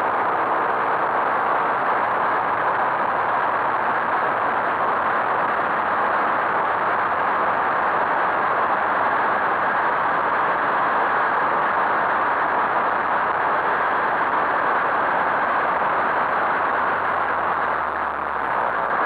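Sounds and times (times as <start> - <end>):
motorcycle road noise: 0.0 - 19.0.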